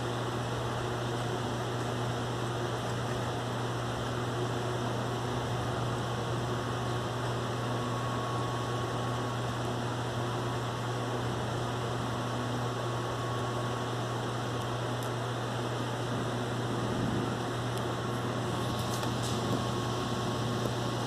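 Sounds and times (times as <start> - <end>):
constant low hum: 0.0 - 21.0.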